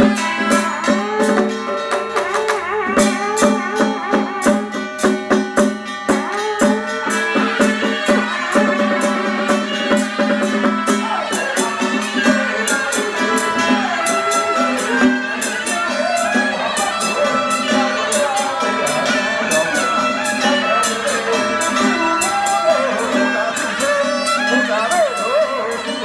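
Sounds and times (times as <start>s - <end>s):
fast drum and cymbal strikes: 0.0s - 26.0s.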